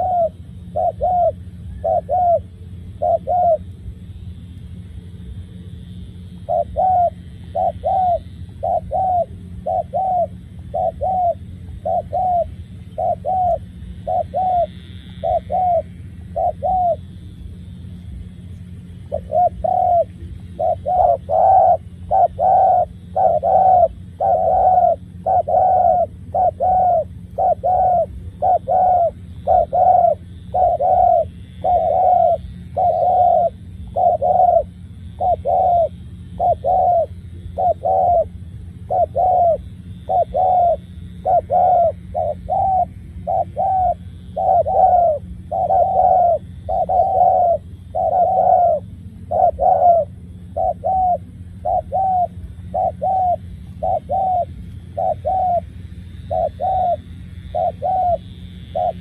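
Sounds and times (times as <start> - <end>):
dove cooing: 0.0 - 59.0
steady low hum: 0.0 - 59.0.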